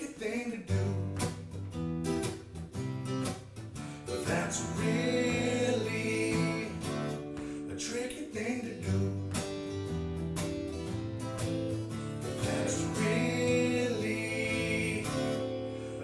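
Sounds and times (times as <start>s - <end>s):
acoustic guitar strumming: 0.2s - 16.0s.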